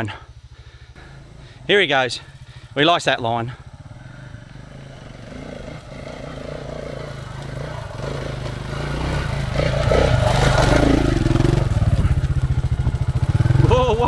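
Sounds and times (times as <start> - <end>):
dirt bike engine climbing: 0.0 - 14.0.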